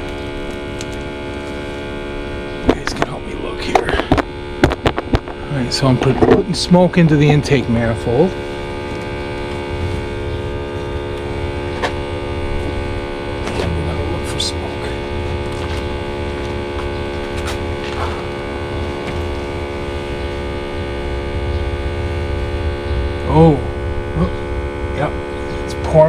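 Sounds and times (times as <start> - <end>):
air pump humming: 0.0 - 26.0.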